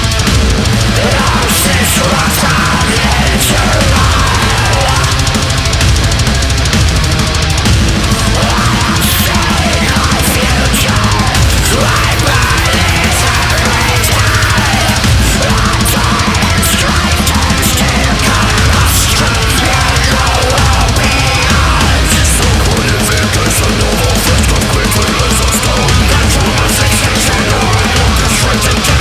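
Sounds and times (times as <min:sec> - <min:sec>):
distorted guitars: 0:00.0 - 0:29.0
rapid dense drumming: 0:00.0 - 0:29.0.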